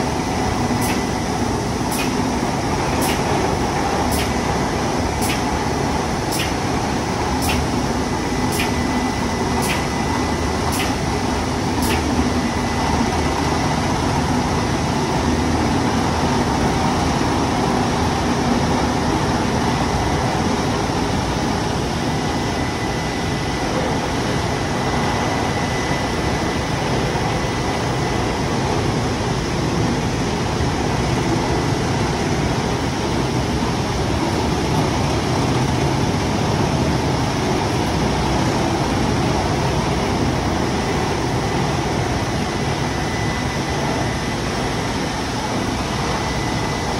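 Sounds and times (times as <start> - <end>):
faint high whine: 0.0 - 46.9.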